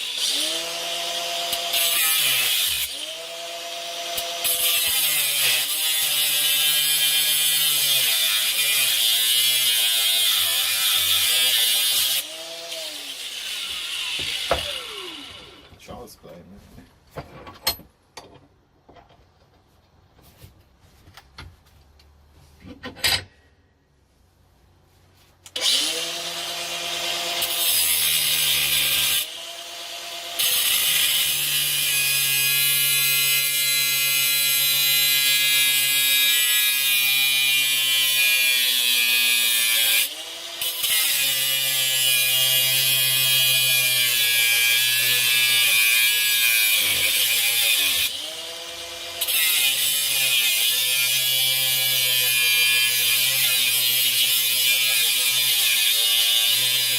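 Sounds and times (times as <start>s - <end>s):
angle grinder cutting steel chain: 0.0s - 15.7s, 25.5s - 56.9s.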